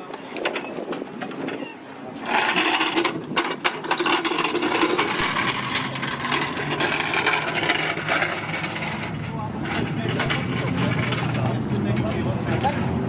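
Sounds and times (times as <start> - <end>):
tyres scraping over ramps: 0.1 - 13.0.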